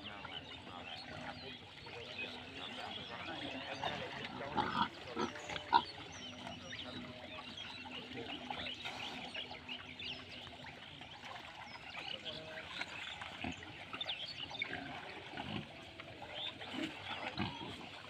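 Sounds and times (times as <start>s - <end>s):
pigs grunting: 0.0s - 9.5s, 12.3s - 18.0s.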